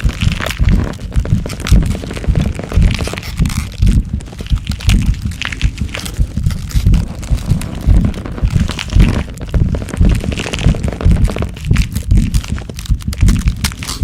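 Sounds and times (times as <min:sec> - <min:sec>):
deep thuds: 0:00.0 - 0:13.8
sharp cracking and crunching clicks: 0:00.0 - 0:14.0.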